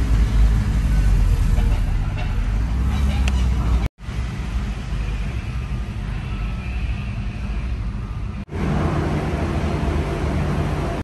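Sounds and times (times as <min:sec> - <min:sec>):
car engine and rolling noise: 0:00.0 - 0:11.0.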